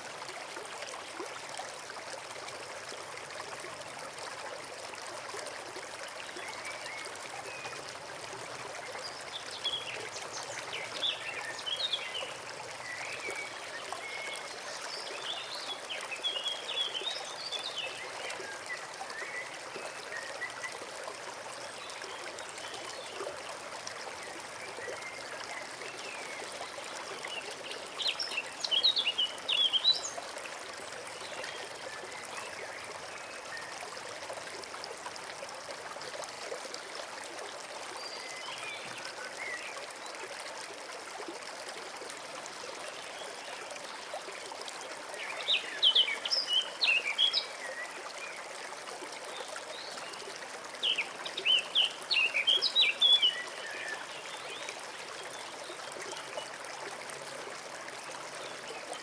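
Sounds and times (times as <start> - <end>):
brook trickling: 0.0 - 59.0.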